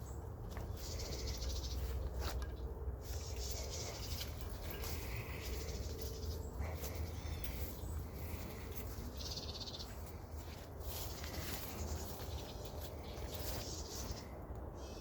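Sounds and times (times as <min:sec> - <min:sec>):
leaves and stems rustling: 0:00.0 - 0:14.4
footsteps through brush: 0:00.0 - 0:15.0.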